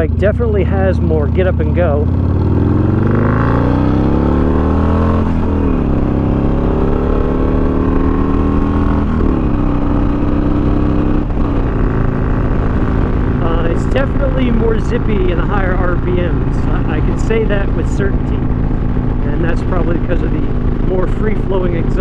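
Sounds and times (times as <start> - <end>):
motorcycle accelerating through gears: 0.0 - 22.0.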